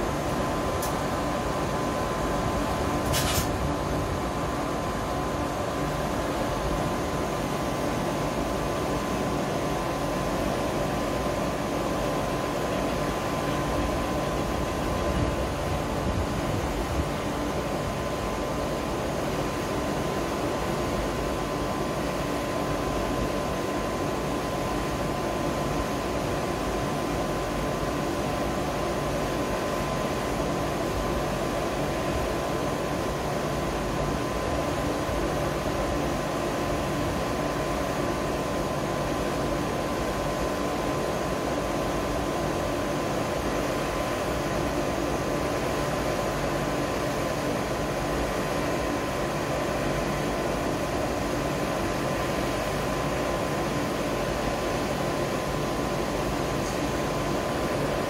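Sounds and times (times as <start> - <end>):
train cooling fans whirring: 0.0 - 58.0.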